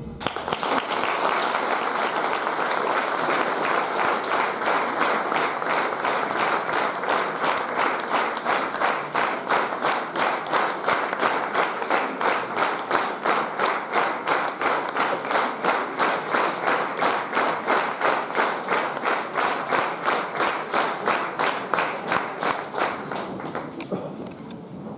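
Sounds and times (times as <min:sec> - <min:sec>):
audience clapping in rhythm: 0:00.0 - 0:24.3.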